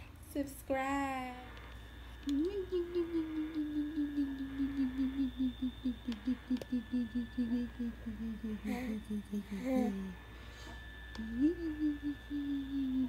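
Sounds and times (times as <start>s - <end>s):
person humming low note: 2.2s - 13.0s.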